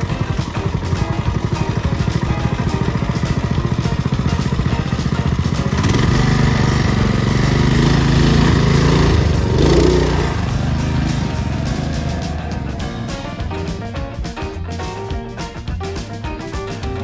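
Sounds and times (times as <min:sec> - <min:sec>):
small engine chugging: 0:00.0 - 0:13.9.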